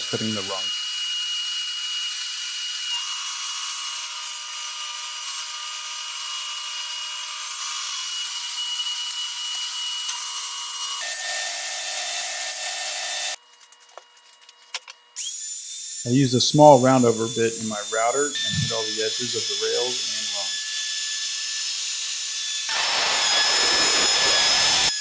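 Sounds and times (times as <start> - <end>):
power saw cutting wood: 0.0 - 13.4, 15.2 - 25.0.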